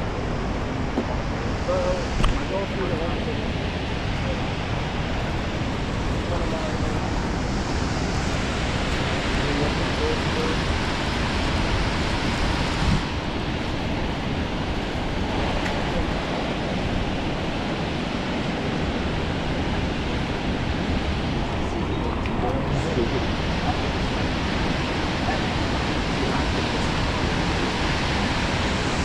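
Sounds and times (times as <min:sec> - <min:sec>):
waterfall roar: 0:00.0 - 0:29.0.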